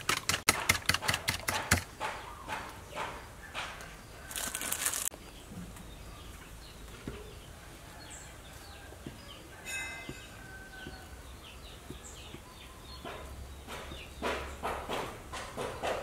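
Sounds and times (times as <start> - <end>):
small birds chirping: 1.0 - 16.0.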